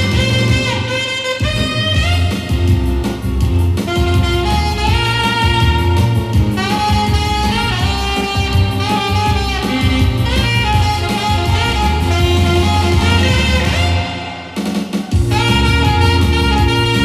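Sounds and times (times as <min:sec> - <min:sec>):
backing track with bass and drums: 0:00.0 - 0:17.0
saxophone melody: 0:00.0 - 0:17.0.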